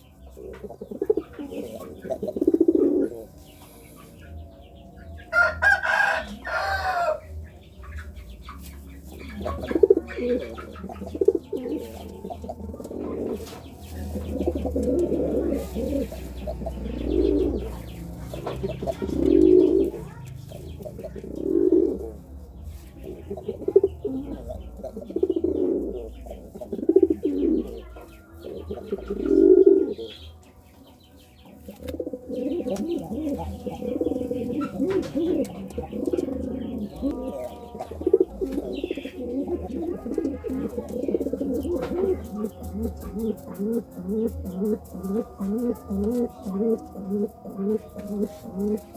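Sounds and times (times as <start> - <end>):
pigeon cooing: 0.0 - 48.9.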